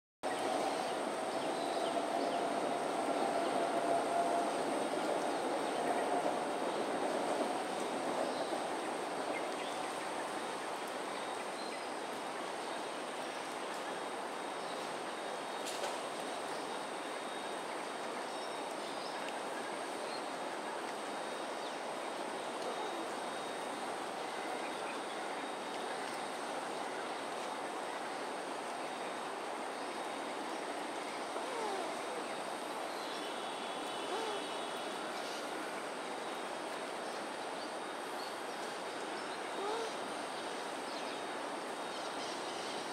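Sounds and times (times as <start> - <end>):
constant hiss: 0.3 - 42.9
faint high whine: 0.3 - 42.9.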